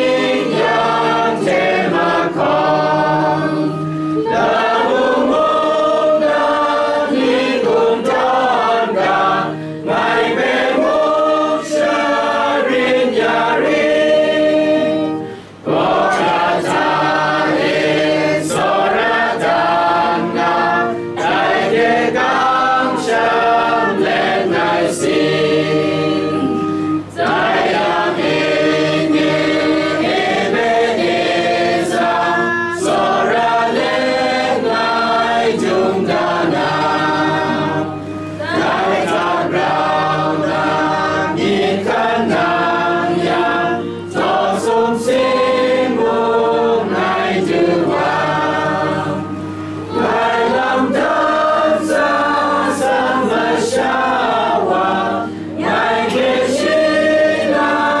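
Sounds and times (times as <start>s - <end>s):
choir singing a religious song: 0.0s - 58.0s.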